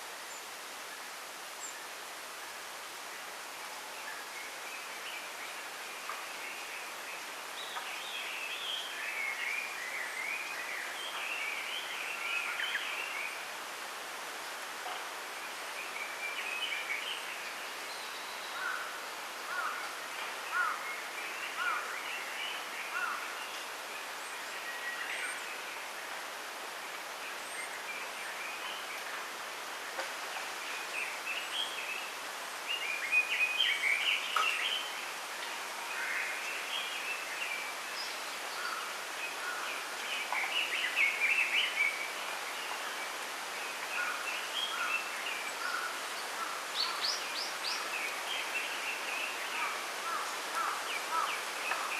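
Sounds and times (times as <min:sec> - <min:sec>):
songbirds chirping and twittering: 0:00.0 - 0:51.9
wind in bamboo: 0:00.0 - 0:51.9.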